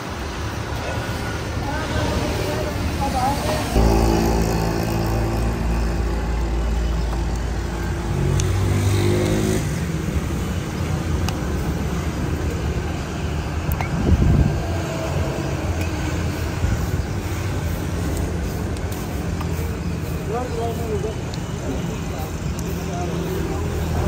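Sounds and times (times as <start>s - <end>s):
engine hum: 0.0s - 24.0s
street traffic drone: 0.0s - 24.0s.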